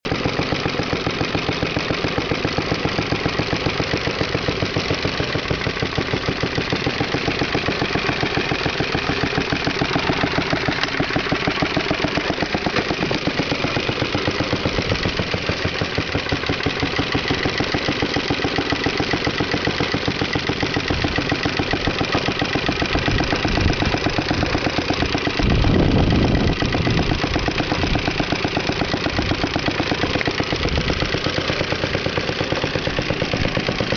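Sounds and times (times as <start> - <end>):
lawnmower engine running: 0.0 - 33.9.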